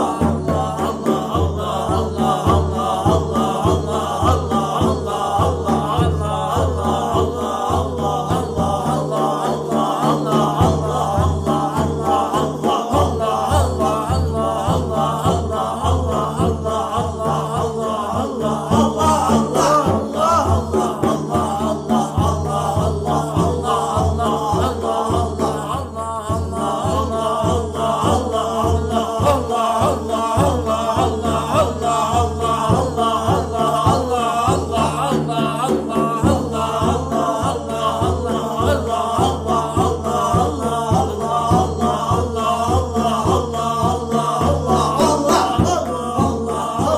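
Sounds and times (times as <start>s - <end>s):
held drone tones: 0.0s - 46.9s
rhythmic low pulse: 0.0s - 46.9s
voices chanting: 0.0s - 46.9s.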